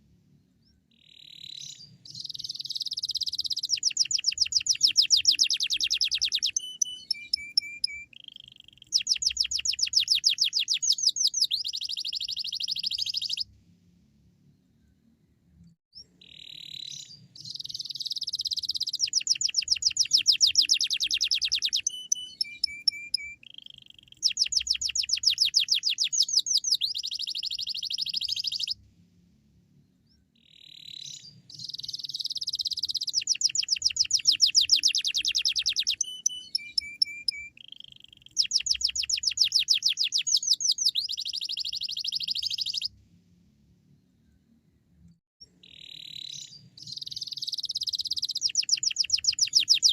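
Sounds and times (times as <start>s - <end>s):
canary trilling song: 0.9s - 13.5s, 15.9s - 28.8s, 30.4s - 43.0s, 45.4s - 49.9s.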